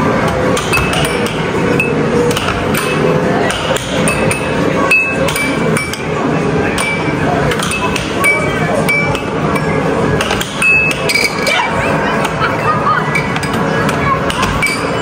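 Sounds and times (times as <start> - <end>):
busy background noise: 0.0 - 15.0.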